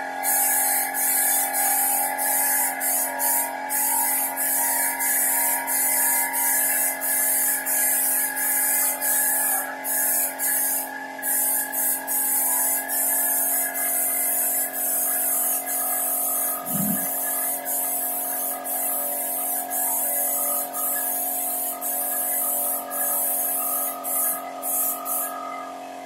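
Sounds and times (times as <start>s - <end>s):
air compressor humming: 0.0s - 25.4s
spray gun hissing: 0.2s - 25.3s.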